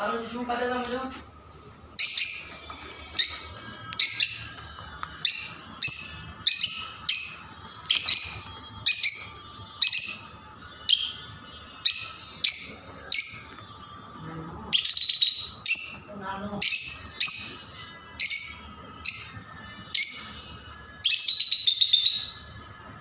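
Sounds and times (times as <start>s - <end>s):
lovebirds chirping: 1.9s - 22.6s.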